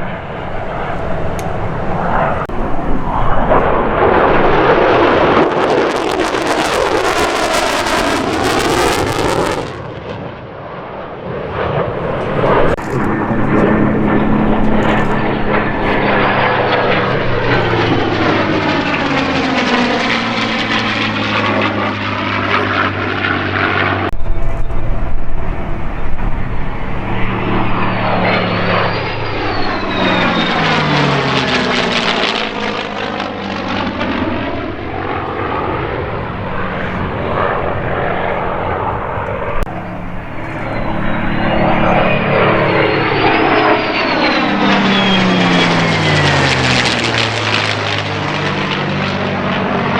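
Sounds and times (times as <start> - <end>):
fighter jet roaring past: 0.0 - 49.9.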